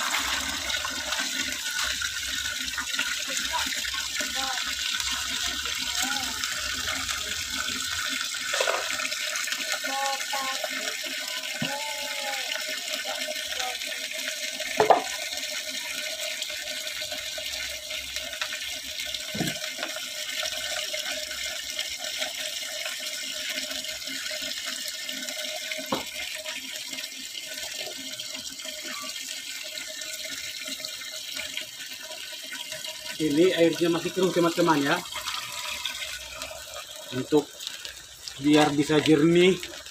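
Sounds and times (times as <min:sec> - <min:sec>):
water stream splashing into bucket: 0:00.0 - 0:39.9.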